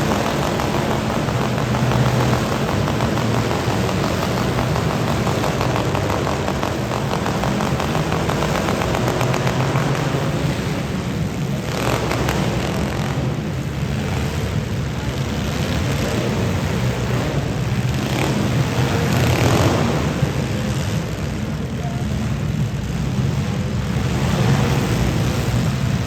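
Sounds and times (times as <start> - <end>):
car engines running together: 0.0 - 26.0.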